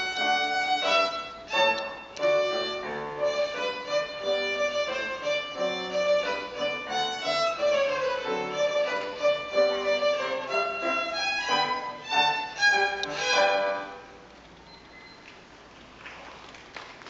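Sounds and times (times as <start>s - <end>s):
solo violin melody: 0.0s - 14.1s
grand piano: 0.0s - 14.3s.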